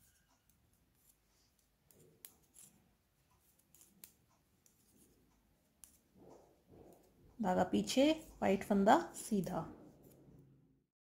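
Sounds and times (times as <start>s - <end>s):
knitting needles clicking: 0.0s - 10.2s
soft yarn handling: 0.0s - 10.6s.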